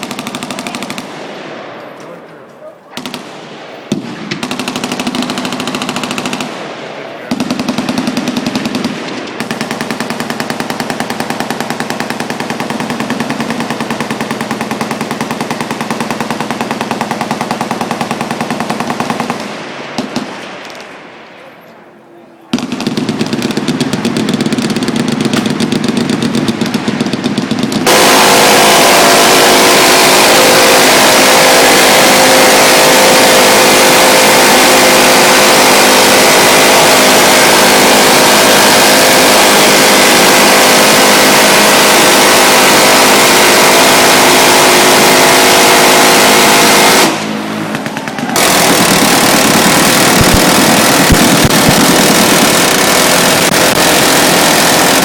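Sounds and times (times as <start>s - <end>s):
machine-gun fire: 0.0s - 2.1s, 2.9s - 21.3s, 22.5s - 55.0s.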